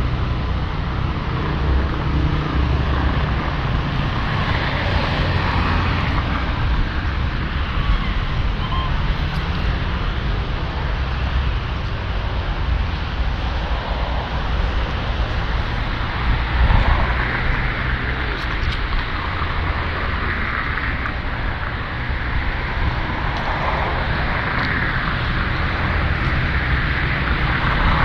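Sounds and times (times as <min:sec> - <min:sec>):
street traffic noise: 0:00.0 - 0:28.0
vehicle passing: 0:00.0 - 0:28.0.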